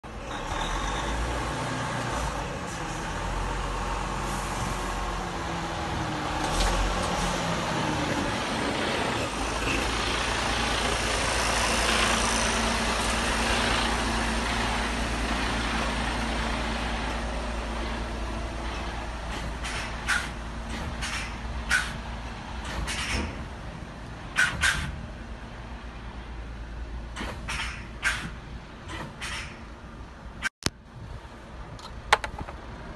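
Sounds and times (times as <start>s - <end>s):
truck diesel engine: 0.0s - 30.5s.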